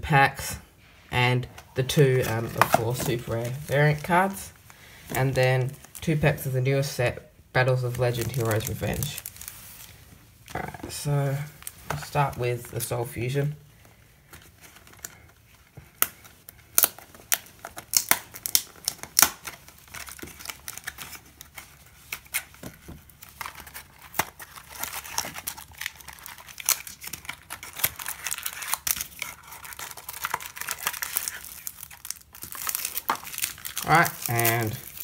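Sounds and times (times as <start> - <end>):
foil packs crinkling: 1.5 - 6.9, 7.6 - 10.3, 10.9 - 35.0.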